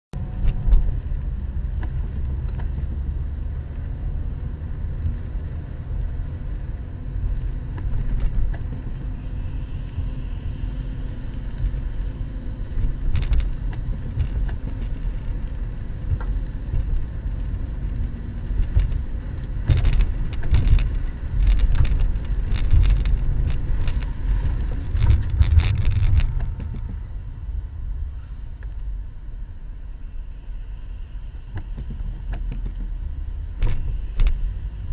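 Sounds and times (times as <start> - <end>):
car engine and tyres rumbling: 0.1 - 34.9.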